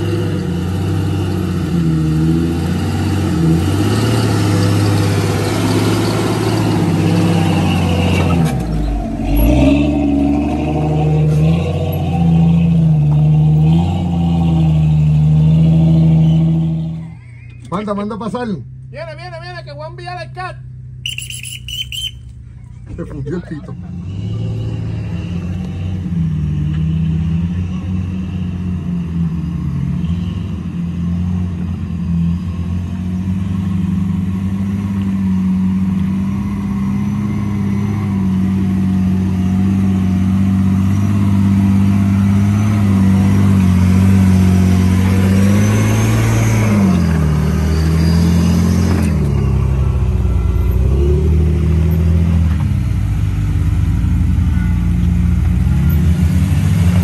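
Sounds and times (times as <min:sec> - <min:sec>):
engine revving: 0:00.0 - 0:17.1, 0:22.9 - 0:57.0.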